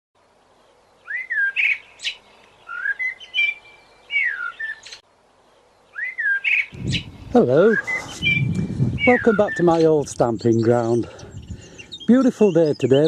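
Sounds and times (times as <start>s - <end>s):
songbird singing: 0.2s - 13.0s.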